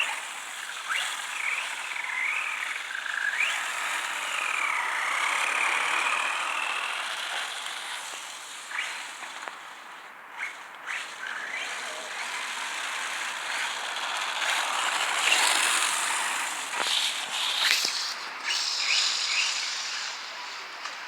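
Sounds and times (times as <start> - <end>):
toy truck motor and tyres hissing: 0.0 - 21.0.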